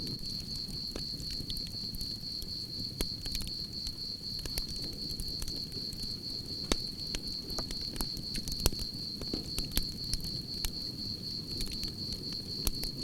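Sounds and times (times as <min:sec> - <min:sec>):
campfire crackling and popping: 0:00.0 - 0:13.0
crickets trilling: 0:00.0 - 0:13.0.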